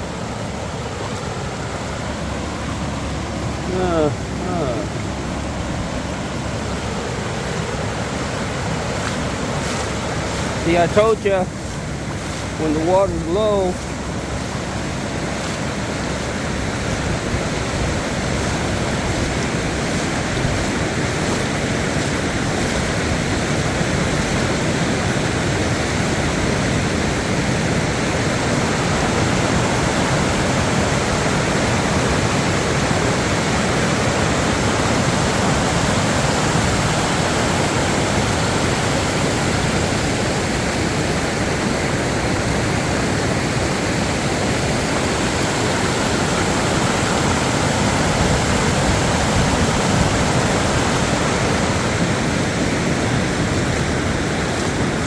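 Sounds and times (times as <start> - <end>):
flooded creek rushing: 0.0 - 55.0.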